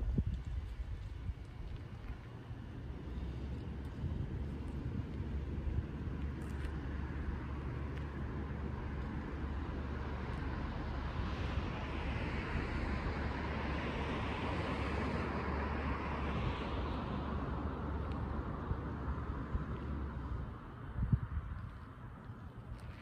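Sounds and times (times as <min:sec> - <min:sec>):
low traffic rumble: 0:00.0 - 0:23.0
vehicle passing: 0:02.5 - 0:22.2.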